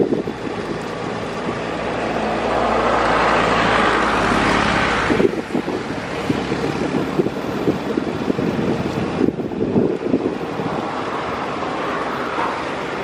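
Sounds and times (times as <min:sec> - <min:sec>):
wind buffeting microphone: 0:00.0 - 0:13.0
vehicle passing: 0:00.7 - 0:13.0.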